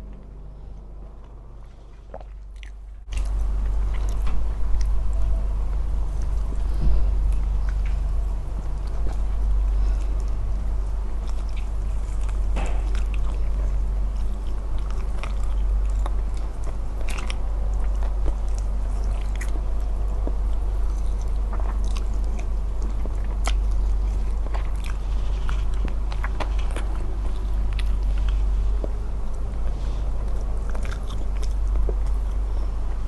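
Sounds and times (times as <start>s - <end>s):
close chewing and crunching: 0.0s - 33.0s
low hum: 0.0s - 33.0s.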